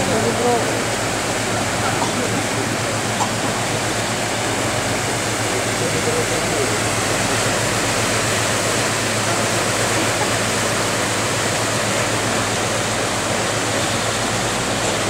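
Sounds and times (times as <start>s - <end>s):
water rushing through lock gate: 0.0s - 15.0s.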